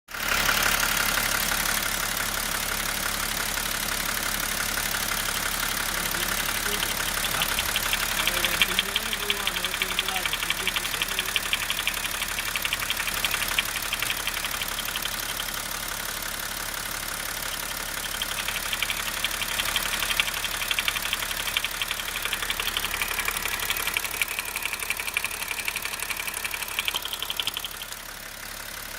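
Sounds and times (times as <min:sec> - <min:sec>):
diesel engine idling: 0:00.1 - 0:28.9
rapid engine knocking: 0:00.1 - 0:28.9.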